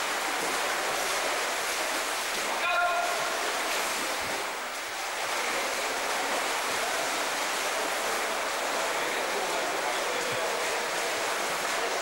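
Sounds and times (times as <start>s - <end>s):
swimmers splashing: 0.0s - 12.0s.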